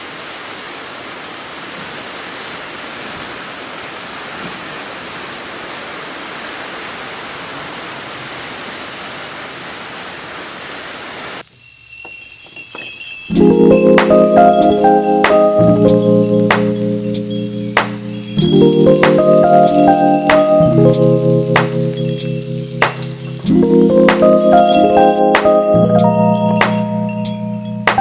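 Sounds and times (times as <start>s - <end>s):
steady rain hiss: 0.0s - 27.1s.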